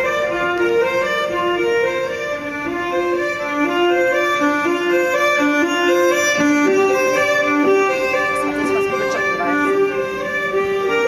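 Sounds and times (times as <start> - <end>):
solo violin melody: 0.0 - 11.0.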